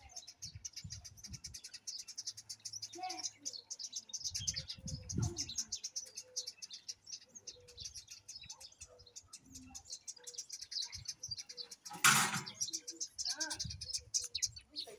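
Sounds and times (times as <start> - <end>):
songbirds chirping: 0.0 - 14.9.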